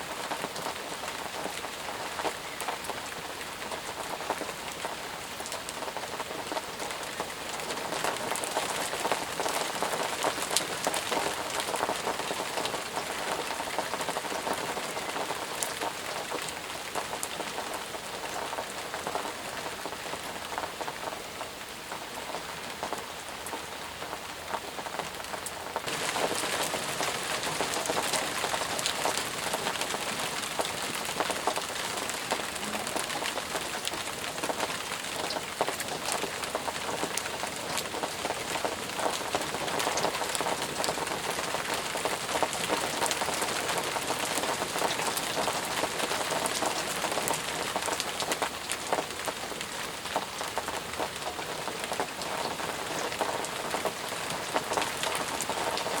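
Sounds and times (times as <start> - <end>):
raindrops ticking: 0.0 - 56.0
steady rain: 0.0 - 56.0.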